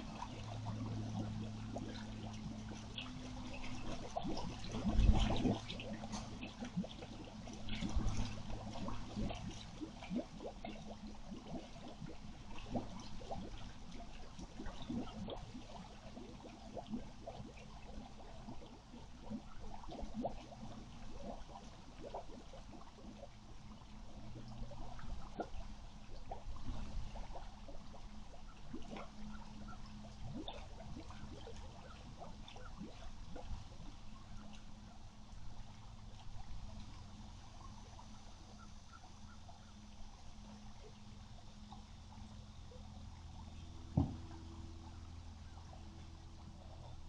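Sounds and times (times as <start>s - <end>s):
small splashes and gurgles: 0.0s - 39.7s
faint low hum: 0.0s - 47.0s.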